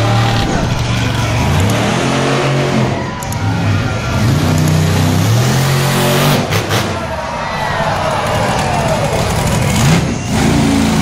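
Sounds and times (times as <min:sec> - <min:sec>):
truck engine revving: 0:00.0 - 0:07.1, 0:08.2 - 0:11.0.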